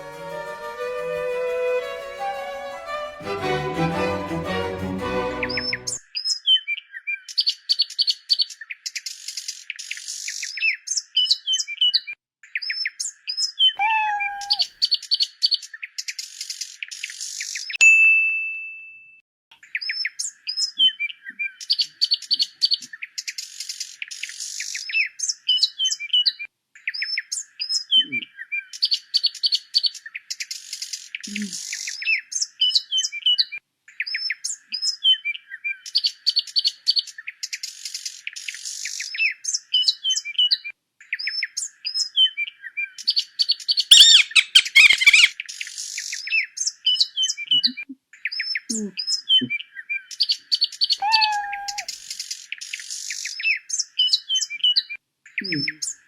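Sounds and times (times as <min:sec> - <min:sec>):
songbirds chirping and singing: 0:05.4 - 0:17.7, 0:19.7 - 0:56.0.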